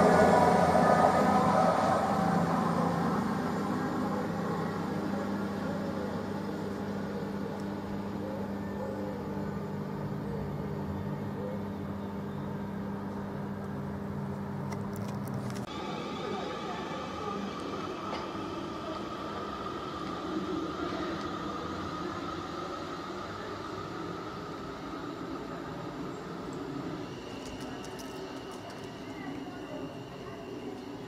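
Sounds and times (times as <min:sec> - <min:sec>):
train running: 0:00.0 - 0:11.5, 0:13.5 - 0:31.0.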